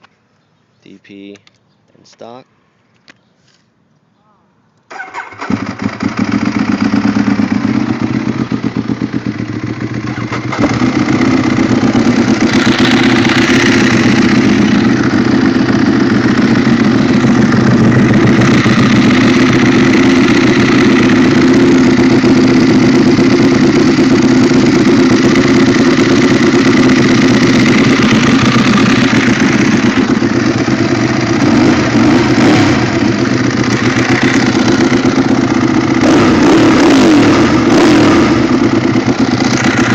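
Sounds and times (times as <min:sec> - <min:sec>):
motorcycles idling: 0:05.4 - 0:39.9.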